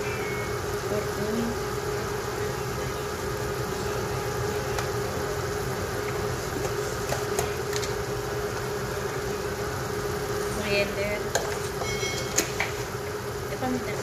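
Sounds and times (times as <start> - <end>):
constant hiss of cooking: 0.0 - 14.0
kitchen hum: 0.0 - 14.0.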